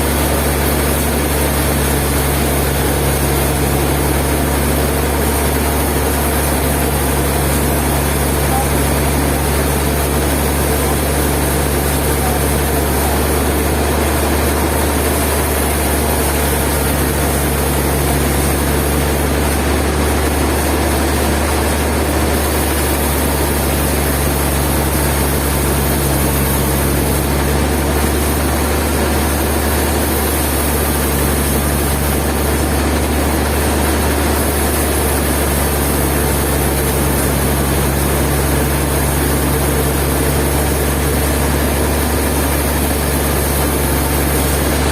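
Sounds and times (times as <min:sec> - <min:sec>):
sawmill machinery droning: 0:00.0 - 0:44.9.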